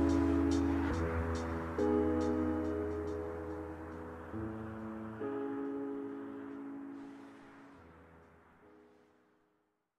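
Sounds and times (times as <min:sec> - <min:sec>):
sustained chord tones: 0:00.0 - 0:08.6.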